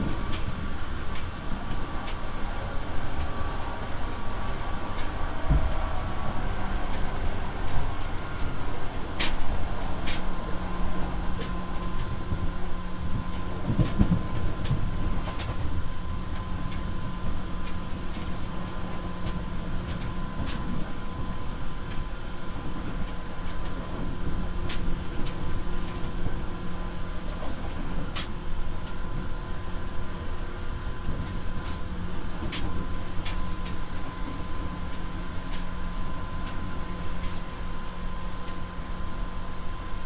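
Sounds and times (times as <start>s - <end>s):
train wheels rumbling: 0.0s - 39.8s.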